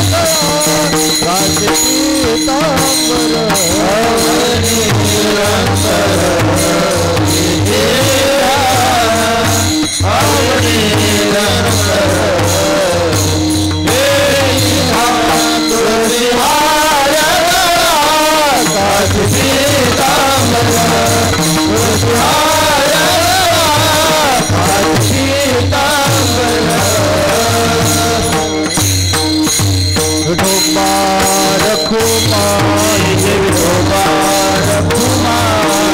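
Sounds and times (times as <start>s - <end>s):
drum: 0.0s - 35.9s
hand cymbals clashing: 0.0s - 35.9s
harmonium: 0.0s - 35.9s
men singing in chorus: 0.0s - 35.9s.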